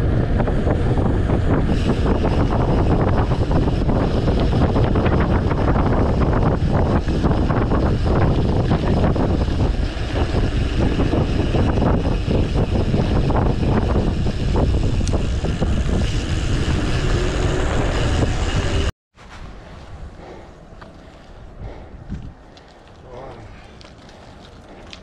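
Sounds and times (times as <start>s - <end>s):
open-air background: 0.0s - 25.0s
road rumble: 0.0s - 25.0s
wind buffeting microphone: 0.0s - 25.0s.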